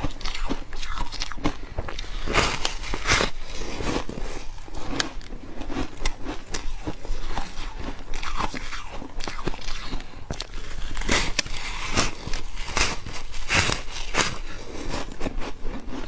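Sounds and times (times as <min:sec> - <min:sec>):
biting into frozen foam: 0:00.0 - 0:16.0
chewing crunches: 0:00.0 - 0:16.0.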